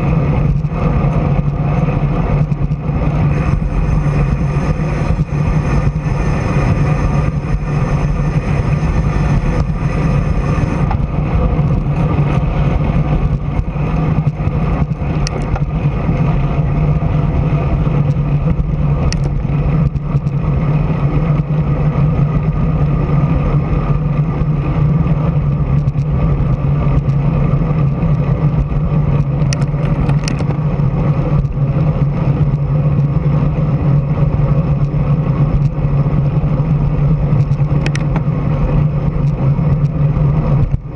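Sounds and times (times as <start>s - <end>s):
vehicle engine running: 0.0s - 40.9s
wind noise on microphone: 0.0s - 40.9s.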